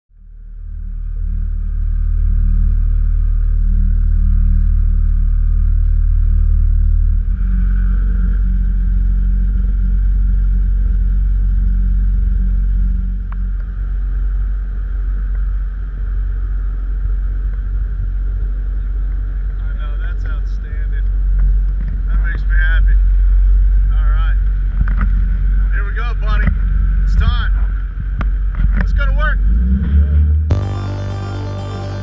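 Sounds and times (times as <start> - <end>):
outboard motor running: 0.3 - 28.9.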